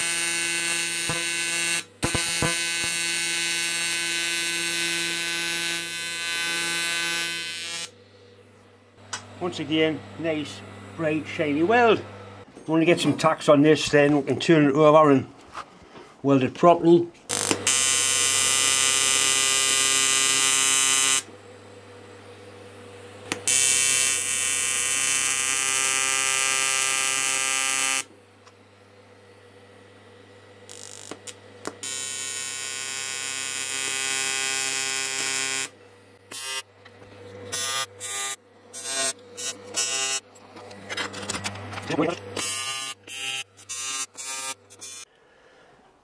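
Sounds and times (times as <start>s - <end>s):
welding arc buzzing: 0.0s - 12.5s, 17.3s - 21.3s, 21.9s - 45.1s.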